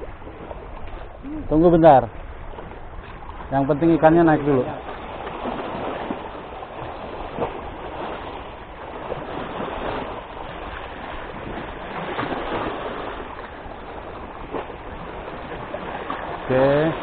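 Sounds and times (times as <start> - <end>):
waves splashing on concrete: 0.0 - 17.0.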